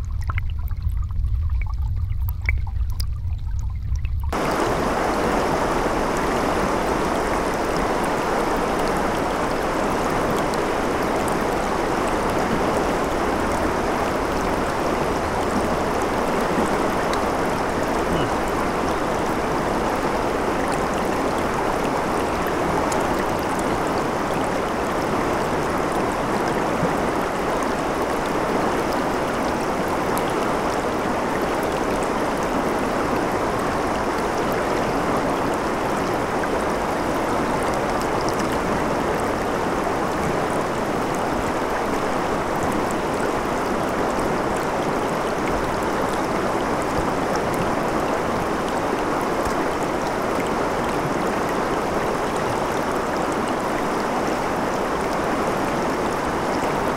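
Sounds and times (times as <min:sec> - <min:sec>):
stream flowing over stones: 0:00.0 - 0:56.9.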